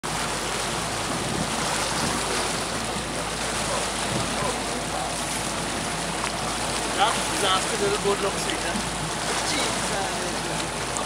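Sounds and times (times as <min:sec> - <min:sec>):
water rushing in boat wake: 0:00.0 - 0:11.0.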